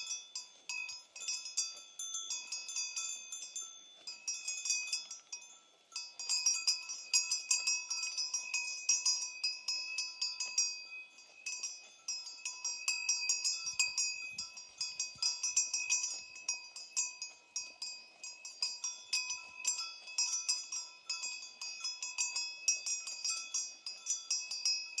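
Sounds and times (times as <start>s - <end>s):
cowbells clanking: 0.0s - 25.0s.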